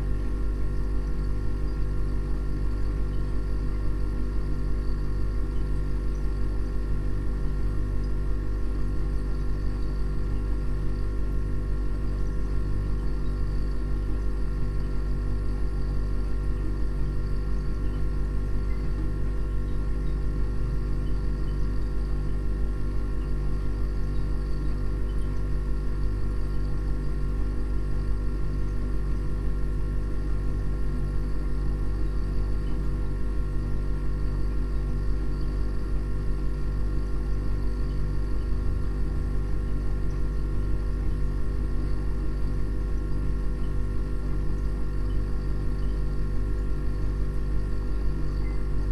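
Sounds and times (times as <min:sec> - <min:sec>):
deep droning hum: 0:00.0 - 0:48.9.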